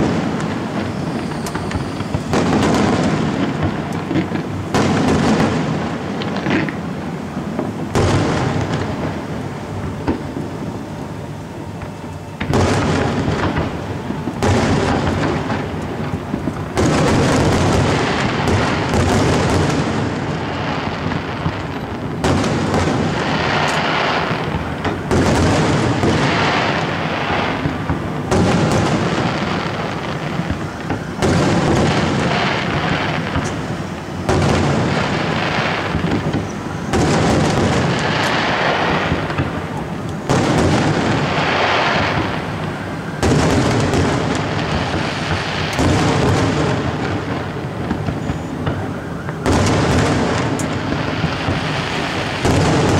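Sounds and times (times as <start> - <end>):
fireworks bursting: 0.0 - 52.9
fireworks crackling: 0.0 - 52.9.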